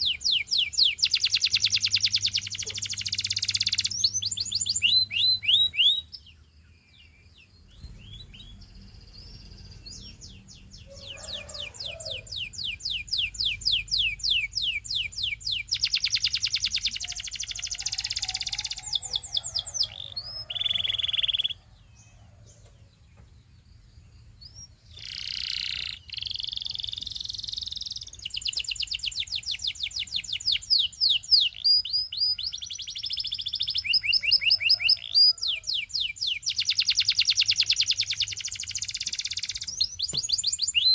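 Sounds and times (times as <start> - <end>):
canary singing fast trills: 0.0 - 40.9.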